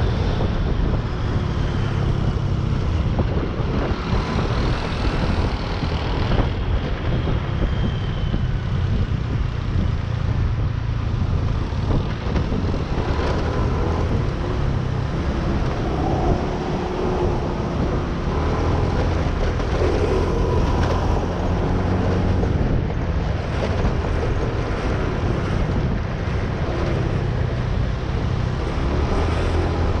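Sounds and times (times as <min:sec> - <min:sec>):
motorcycle riding: 0:00.0 - 0:30.0
wind rumbling on microphone: 0:00.0 - 0:30.0.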